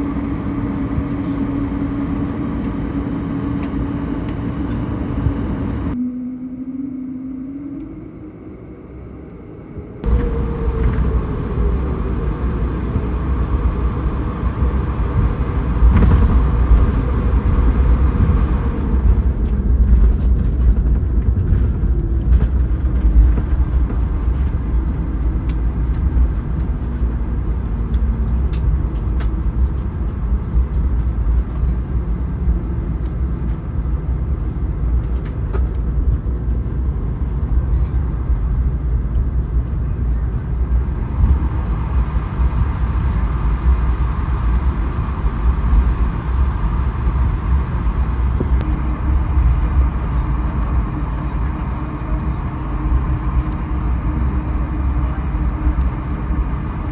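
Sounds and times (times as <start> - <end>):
aircraft cabin rumble: 0.0 - 56.9
jet engine whine: 0.0 - 56.9.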